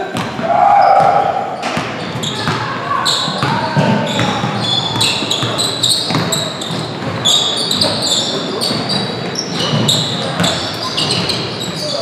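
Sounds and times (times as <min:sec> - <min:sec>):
basketball dribbling thuds: 0:00.0 - 0:11.8
players' voices: 0:00.0 - 0:12.0
sneakers squeaking on floor: 0:00.0 - 0:12.0.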